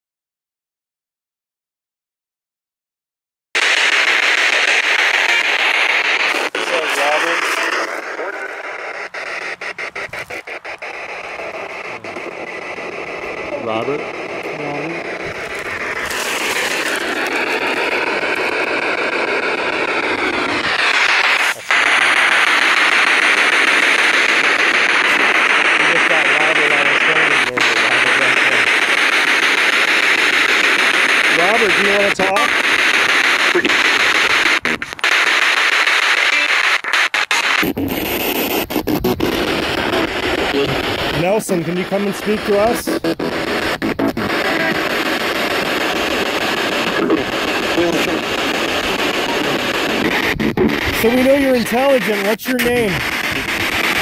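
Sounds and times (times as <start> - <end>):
radio static hiss: 3.6 - 54.0.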